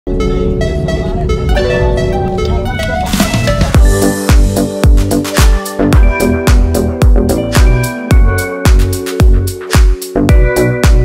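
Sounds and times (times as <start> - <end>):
background music with kick drum: 0.2 - 11.0.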